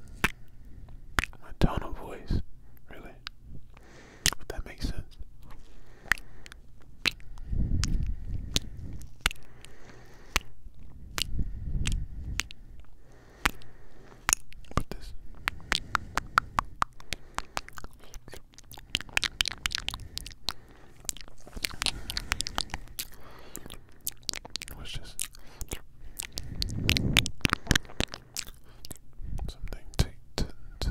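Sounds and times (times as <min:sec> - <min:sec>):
kissing and lip-smacking: 0:00.0 - 0:01.5, 0:03.2 - 0:04.8, 0:05.4 - 0:30.9.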